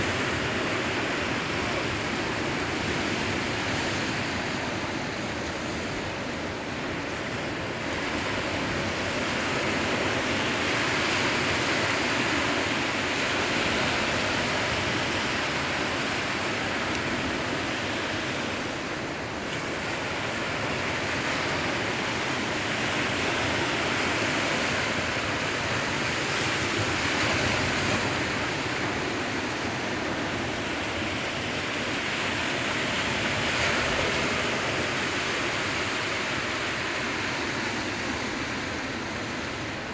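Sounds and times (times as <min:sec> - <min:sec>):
surf washing on shore: 0:00.0 - 0:39.9.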